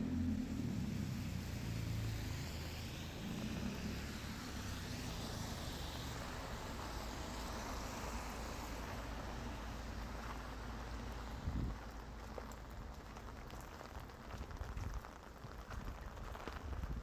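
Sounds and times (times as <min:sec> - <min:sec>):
car engine rumble: 0:00.0 - 0:17.0
rain: 0:00.0 - 0:17.0
tyres hissing on wet road: 0:00.0 - 0:17.0.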